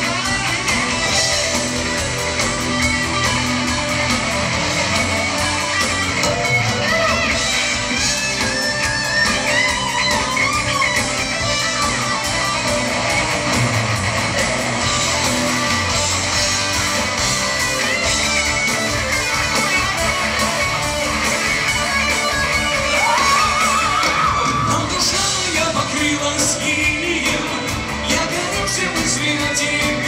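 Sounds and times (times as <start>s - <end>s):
guitar: 0.0s - 30.0s
live pop band playing: 0.0s - 30.0s.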